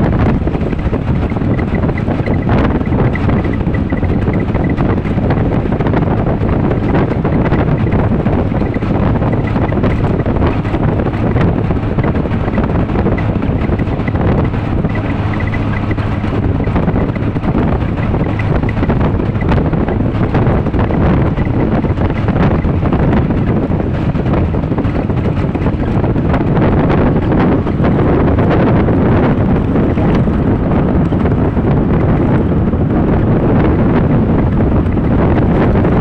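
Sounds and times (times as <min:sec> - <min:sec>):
low rumble of travel: 0:00.0 - 0:36.0
wind noise on microphone: 0:00.0 - 0:36.0.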